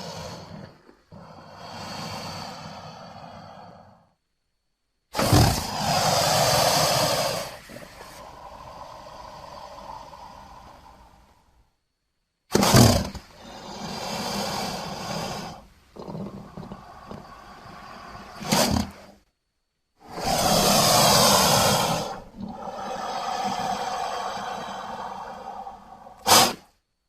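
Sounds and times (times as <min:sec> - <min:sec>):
harsh crocodile calls: 0:00.0 - 0:03.8, 0:05.2 - 0:11.6, 0:12.5 - 0:19.2, 0:20.0 - 0:26.7.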